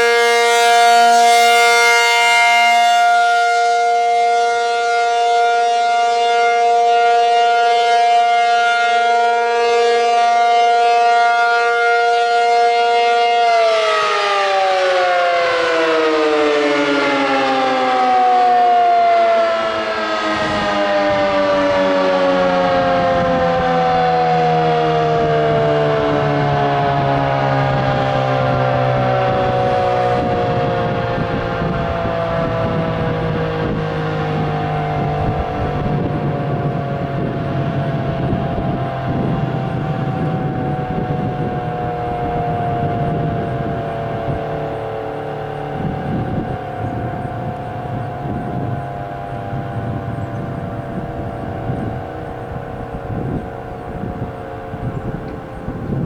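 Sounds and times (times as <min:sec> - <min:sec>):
dual-tone tornado siren: 0:00.0 - 0:56.0.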